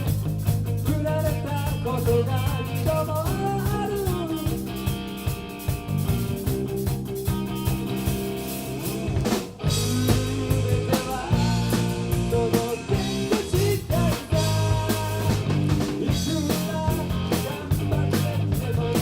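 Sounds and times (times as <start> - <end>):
drum kit: 0.0 - 19.0
guitar: 0.0 - 19.0
rock band playing live: 0.0 - 19.0.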